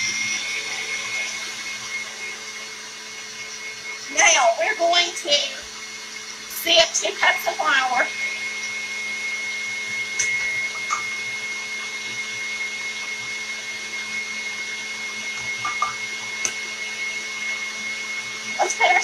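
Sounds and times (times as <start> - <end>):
stand mixer motor whining: 0.0 - 19.0.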